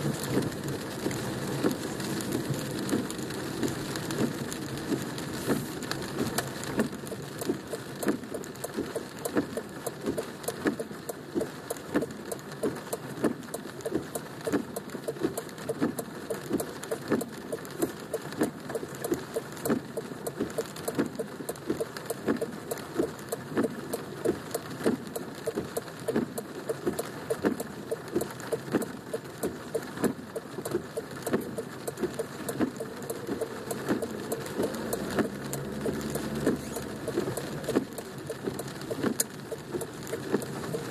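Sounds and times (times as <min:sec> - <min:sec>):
rain hitting car roof: 0:00.0 - 0:40.9.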